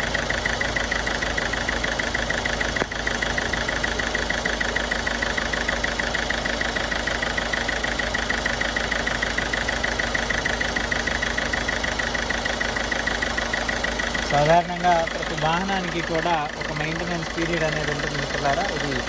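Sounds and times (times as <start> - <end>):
diesel engine idling with ticking: 0.0 - 19.0.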